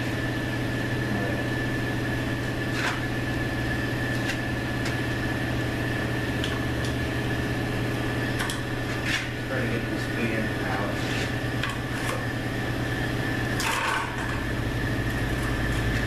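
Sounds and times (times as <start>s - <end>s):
mechanical hum with high whine: 0.0s - 16.0s.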